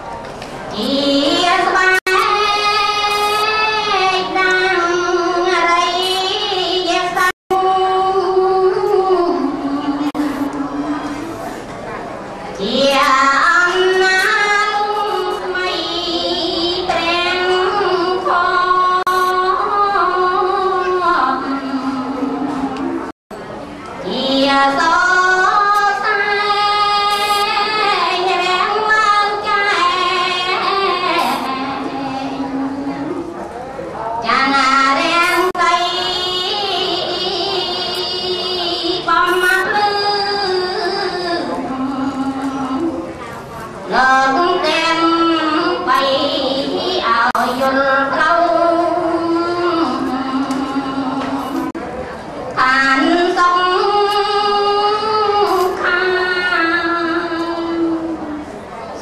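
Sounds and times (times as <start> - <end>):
woman singing into a microphone: 0.7 - 11.4, 12.6 - 23.1, 24.0 - 33.4, 34.2 - 51.8, 52.6 - 59.0.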